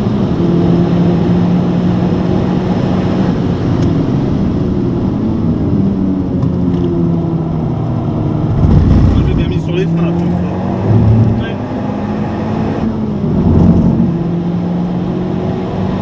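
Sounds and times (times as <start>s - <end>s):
car engine at high revs: 0.0s - 16.0s
wind and road noise: 0.0s - 16.0s.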